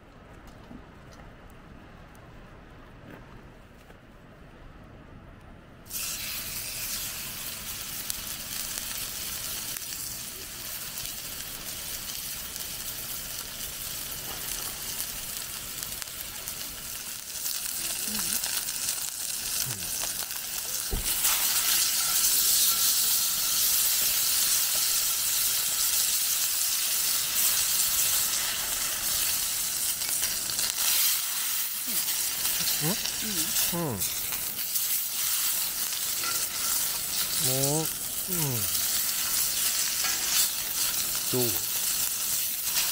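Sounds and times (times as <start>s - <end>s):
steak sizzling in skillet: 5.9s - 42.9s.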